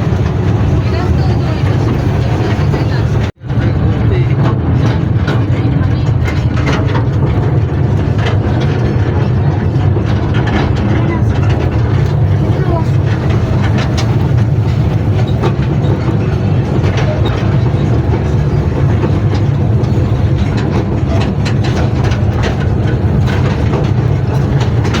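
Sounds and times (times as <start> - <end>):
toy train rumbling: 0.0 - 25.0
train wheels clicking: 0.0 - 25.0.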